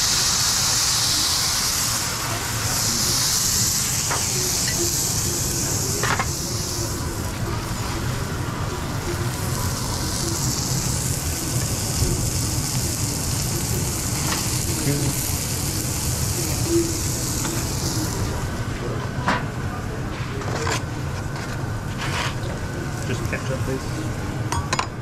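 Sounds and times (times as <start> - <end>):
patties sizzling on griddle: 0.0 - 18.6, 21.9 - 24.4
low kitchen hum: 0.0 - 25.0.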